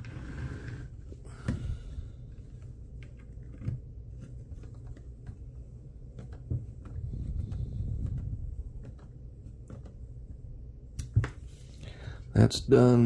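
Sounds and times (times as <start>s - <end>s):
low handling noise: 0.0s - 11.6s.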